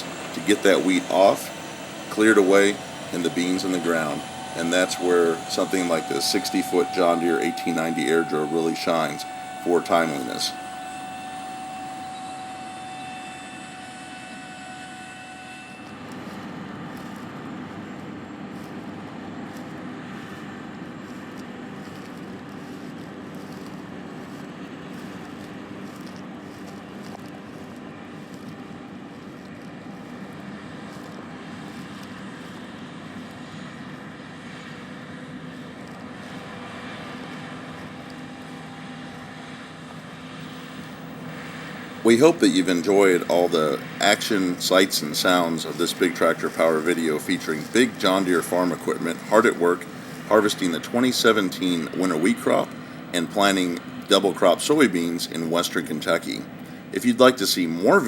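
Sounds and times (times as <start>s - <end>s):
engine drone: 0.0s - 58.0s
thin steady whine: 0.0s - 58.0s.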